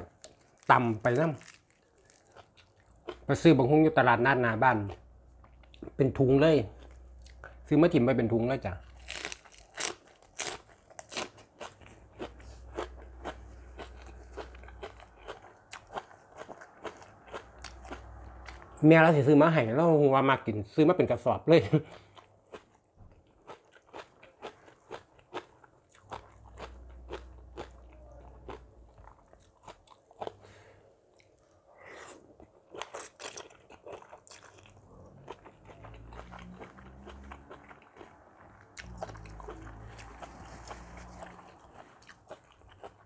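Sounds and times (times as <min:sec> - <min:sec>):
crunchy chewing: 0:00.0 - 0:03.5, 0:08.7 - 0:18.8, 0:21.9 - 0:43.0.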